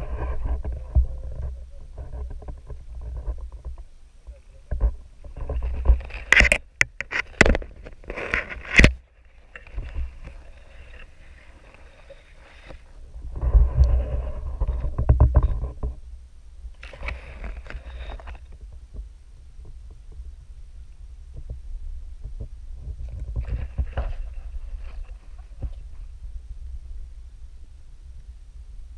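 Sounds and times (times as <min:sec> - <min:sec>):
muffled underwater rumble: 0:00.0 - 0:28.9.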